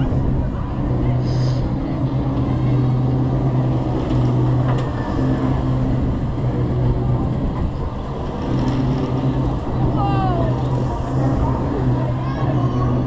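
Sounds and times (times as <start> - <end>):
ride machinery humming: 0.0 - 13.0
wind noise on microphone: 0.0 - 13.0.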